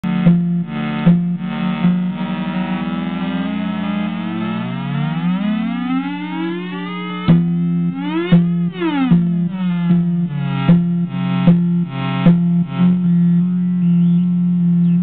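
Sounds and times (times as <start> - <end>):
synthesizer buzzing drone: 0.0 - 15.0
synthesizer tone rising in pitch: 0.0 - 15.0.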